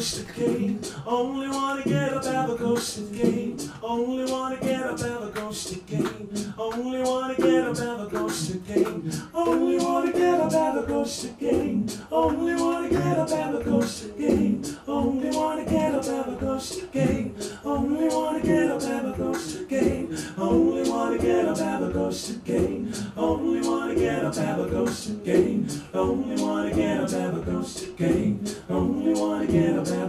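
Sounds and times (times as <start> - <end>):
man singing: 0.0 - 30.0.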